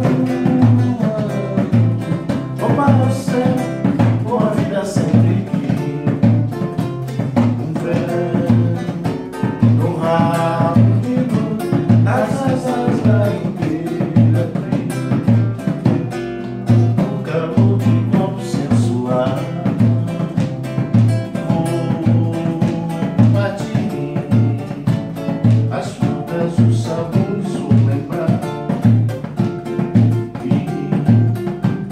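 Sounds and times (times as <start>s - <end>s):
acoustic guitar: 0.0s - 31.9s
person singing: 0.0s - 31.9s
wooden hand drum: 0.0s - 31.9s.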